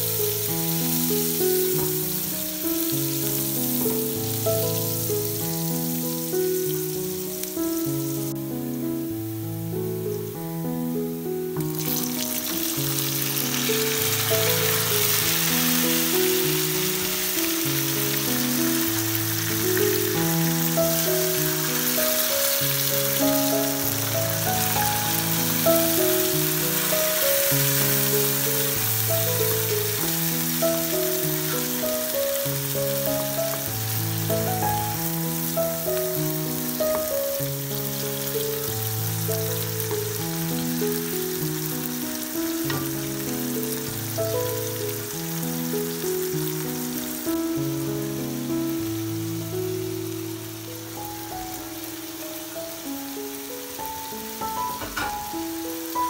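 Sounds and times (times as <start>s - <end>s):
slow instrumental music: 0.0s - 56.0s
vegetables sizzling in oil: 0.0s - 56.0s.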